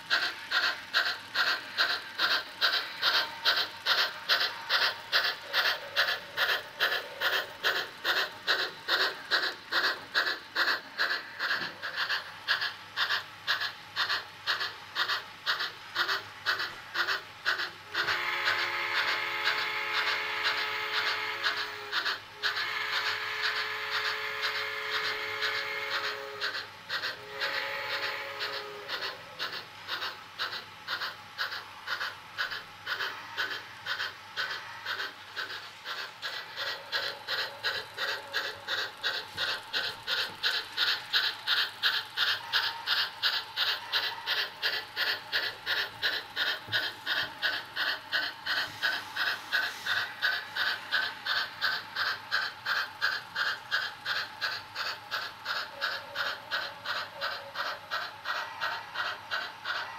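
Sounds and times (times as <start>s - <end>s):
model steam locomotive chuffing: 0.0s - 59.9s.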